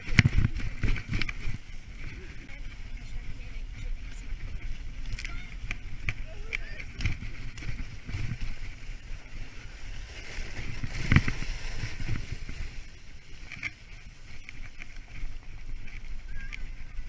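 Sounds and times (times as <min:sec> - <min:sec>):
sled runners scraping on snow: 0:00.0 - 0:17.0.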